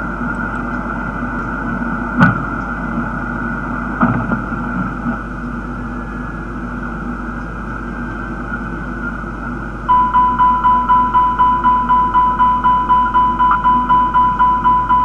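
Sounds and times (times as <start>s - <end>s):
mechanical drone: 0.0s - 15.0s.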